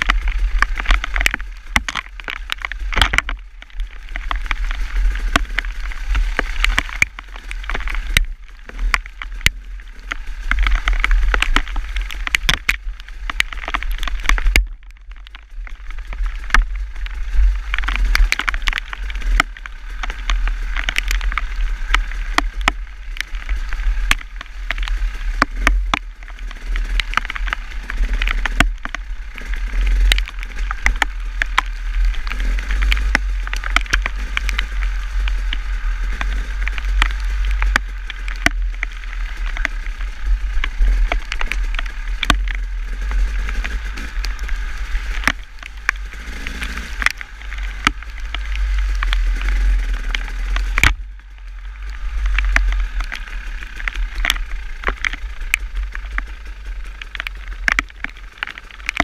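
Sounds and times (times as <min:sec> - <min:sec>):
sharp ticks and clicks: 0:00.0 - 0:59.0
wind rumble on microphone: 0:00.0 - 0:59.0.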